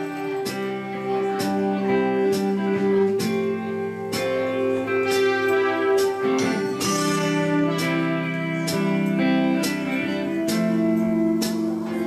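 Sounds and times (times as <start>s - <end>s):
live band playing: 0.0s - 12.0s
strummed guitar chords: 0.0s - 12.0s.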